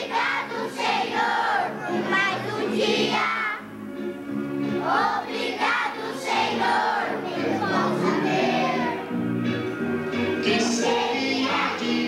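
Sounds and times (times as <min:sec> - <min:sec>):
children singing together: 0:00.0 - 0:03.6, 0:04.8 - 0:09.2, 0:10.1 - 0:12.0.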